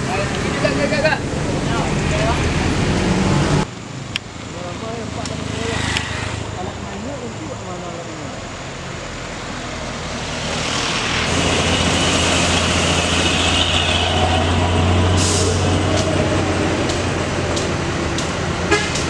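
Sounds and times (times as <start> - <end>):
heavy diesel truck passing: 0.0 - 3.7, 4.9 - 19.0
road noise: 0.0 - 19.0.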